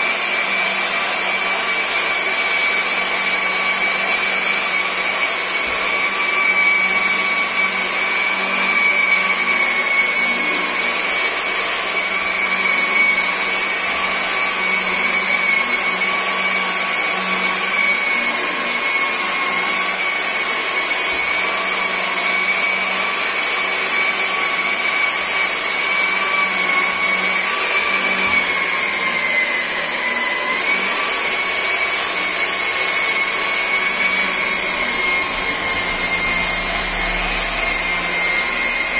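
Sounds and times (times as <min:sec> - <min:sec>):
car polisher motor whine: 0:00.0 - 0:38.9.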